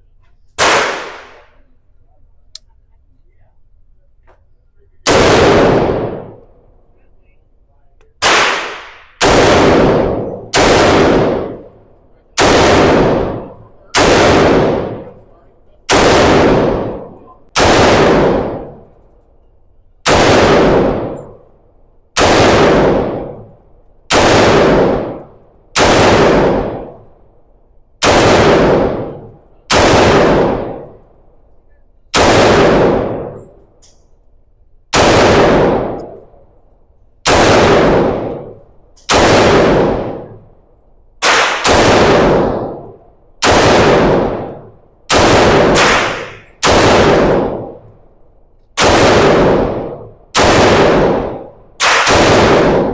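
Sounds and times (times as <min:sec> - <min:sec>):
gunshots with echoing decay: 0:00.6 - 0:01.6, 0:05.0 - 0:06.8, 0:08.1 - 0:19.2, 0:20.0 - 0:27.4, 0:28.0 - 0:31.5, 0:32.1 - 0:34.3, 0:34.9 - 0:52.9.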